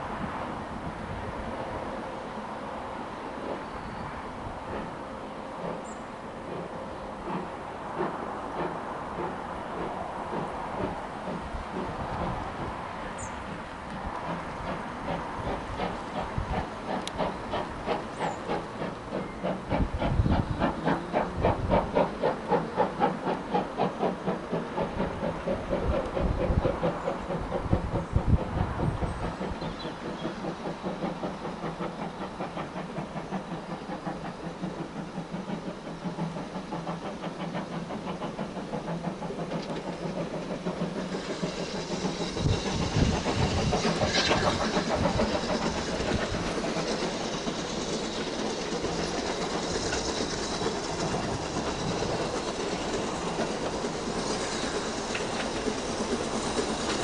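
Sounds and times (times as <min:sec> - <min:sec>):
hiss of steam: 0:00.0 - 0:57.0
steam locomotive chuffing: 0:00.0 - 0:57.0.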